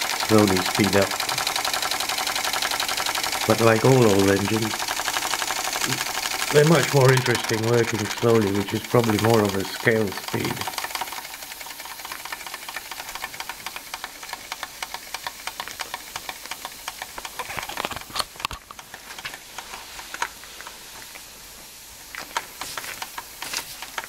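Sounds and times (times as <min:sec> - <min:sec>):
steam exhaust hiss: 0:00.0 - 0:17.9, 0:18.9 - 0:24.0
toy steam engine ticking: 0:00.0 - 0:24.0.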